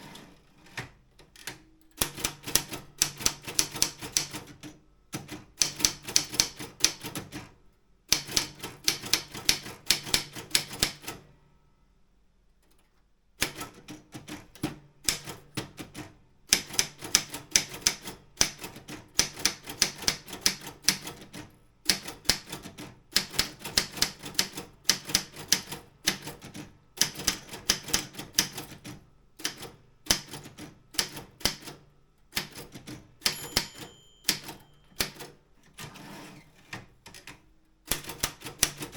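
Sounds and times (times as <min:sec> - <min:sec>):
typewriter keys striking: 0:01.4 - 0:04.6, 0:05.2 - 0:07.4, 0:08.1 - 0:11.1, 0:13.4 - 0:31.8, 0:32.4 - 0:35.3, 0:37.2 - 0:38.9.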